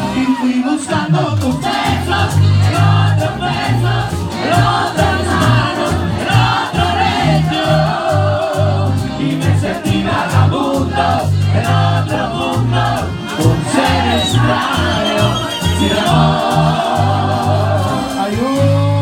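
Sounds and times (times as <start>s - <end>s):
bass line: 0.0s - 19.0s
voices singing: 0.0s - 19.0s
percussion beat: 1.2s - 19.0s.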